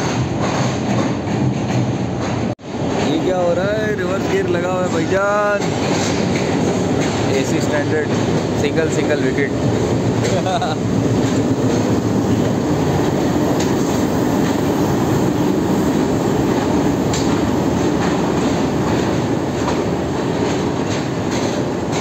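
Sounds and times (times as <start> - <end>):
wheel clacks: 0.0 - 14.8, 15.4 - 22.0
train wheels rumbling on rails: 0.0 - 22.0.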